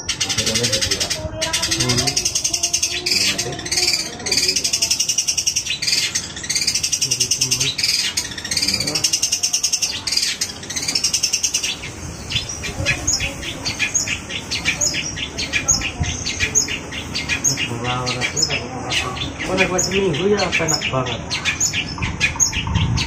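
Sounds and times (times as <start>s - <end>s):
bird chattering song: 0.0s - 23.0s
sharp bird notes: 0.0s - 23.0s.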